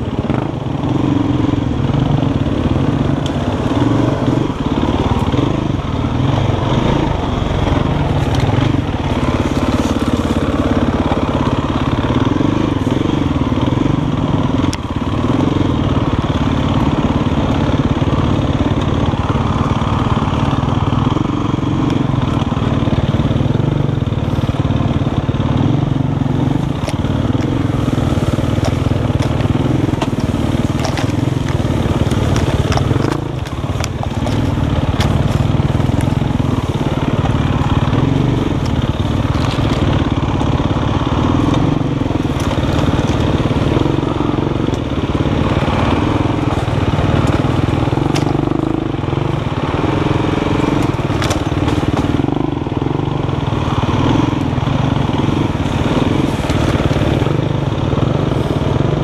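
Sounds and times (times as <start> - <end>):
dirt bike engine at low revs: 0.0 - 59.0
branches snapping against bike: 2.3 - 59.0.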